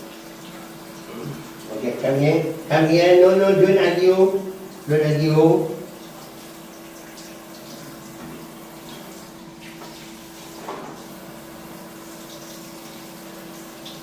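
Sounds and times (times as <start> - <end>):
water running: 0.0 - 14.0.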